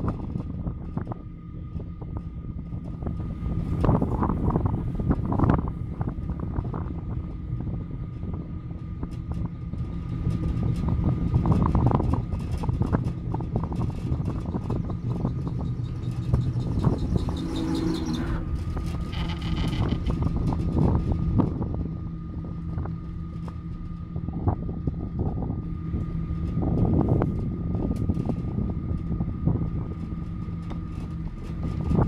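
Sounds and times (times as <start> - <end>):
cable car humming: 0.0 - 32.0
wind noise on microphone: 0.0 - 32.0.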